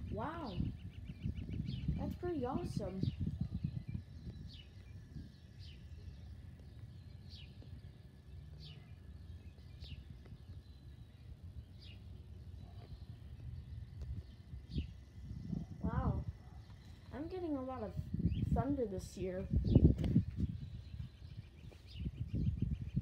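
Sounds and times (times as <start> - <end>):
bird chirping: 0.0 - 23.0
steady low rumble: 0.0 - 23.0.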